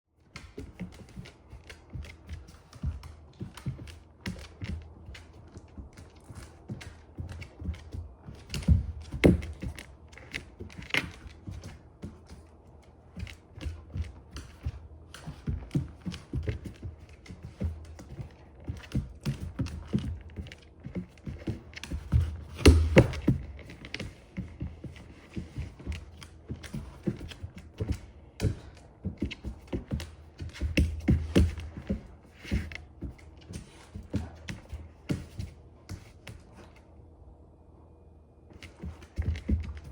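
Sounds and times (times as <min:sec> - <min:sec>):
dog claws clicking on hard floor: 0:00.2 - 0:36.9, 0:38.5 - 0:39.9.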